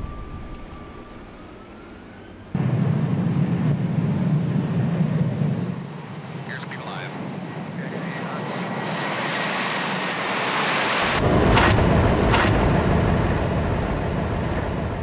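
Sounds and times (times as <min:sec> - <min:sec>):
jet engine and rushing air: 0:00.0 - 0:15.0
wind rushing with low buffeting: 0:00.0 - 0:15.0.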